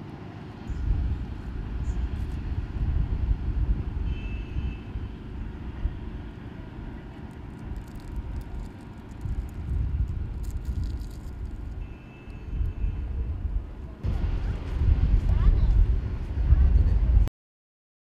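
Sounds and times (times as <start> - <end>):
wind rumbling on microphone: 0.6 - 17.3.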